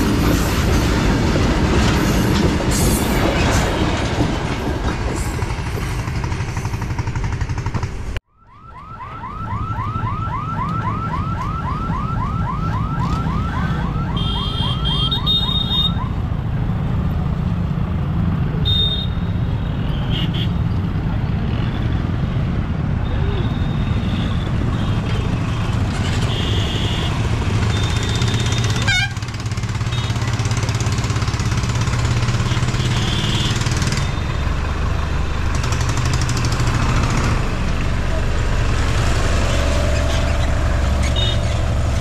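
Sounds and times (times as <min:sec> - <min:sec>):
traffic engines humming: 0:00.0 - 0:42.0.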